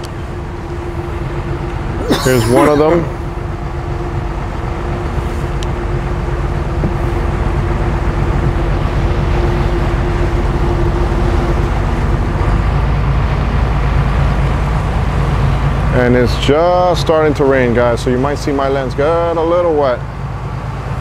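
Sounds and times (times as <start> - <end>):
diesel engine humming: 0.0 - 21.0
steady rushing noise: 0.0 - 21.0.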